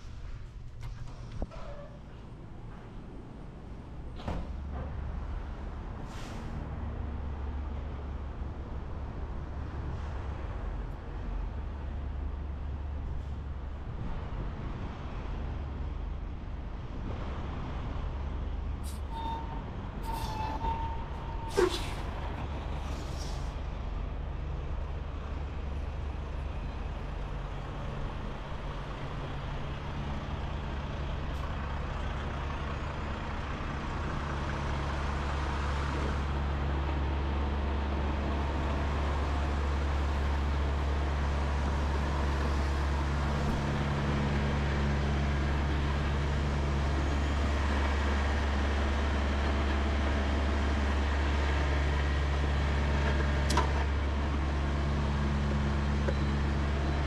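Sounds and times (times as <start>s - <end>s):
diesel engine droning: 2.1s - 57.0s.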